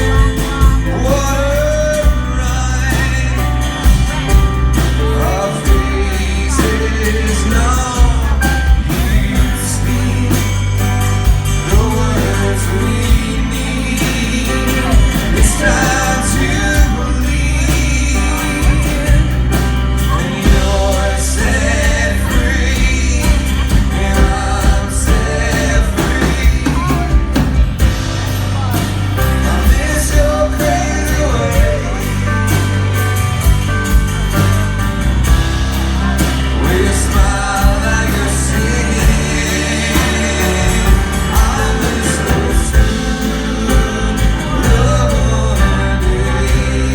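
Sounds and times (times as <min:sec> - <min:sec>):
live band playing: 0:00.0 - 0:46.9
person singing lead vocal: 0:00.0 - 0:46.9.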